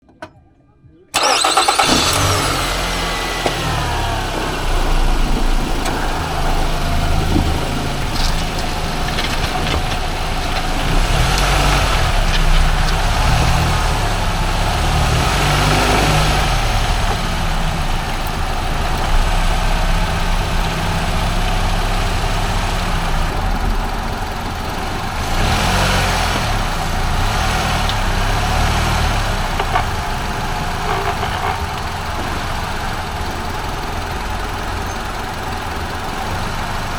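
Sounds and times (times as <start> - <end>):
car running: 1.2 - 36.9.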